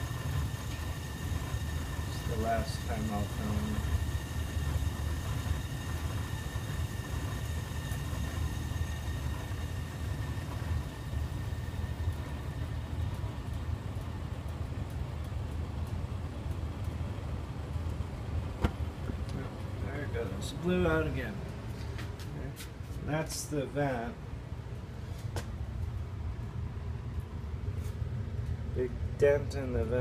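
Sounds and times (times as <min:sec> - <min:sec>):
gas furnace rumbling: 0:00.0 - 0:30.0.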